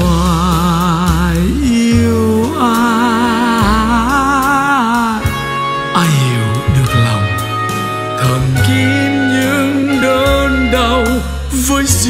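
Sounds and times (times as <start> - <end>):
man singing a slow ballad: 0.0 - 12.0
piano and band accompaniment: 0.0 - 12.0.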